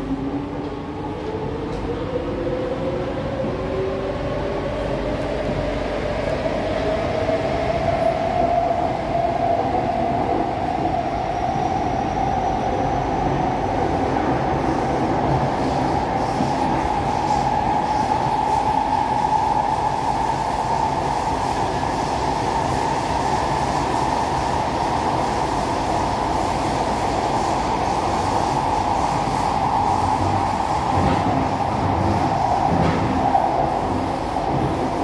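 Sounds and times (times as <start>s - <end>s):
train wheel and rail noise: 0.0s - 35.0s
train whine: 0.0s - 35.0s.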